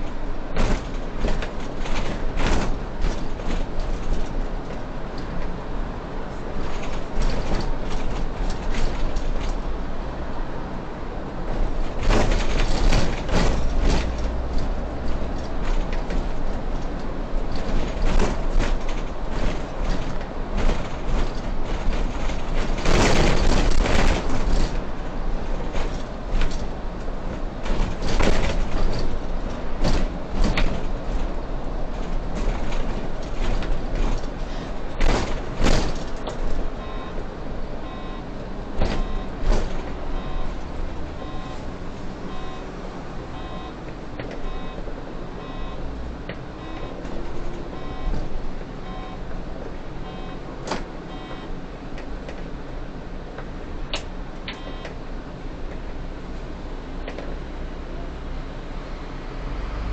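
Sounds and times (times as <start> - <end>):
body knocks and rattles: 0.0 - 57.5
bus engine and road noise: 0.0 - 59.9.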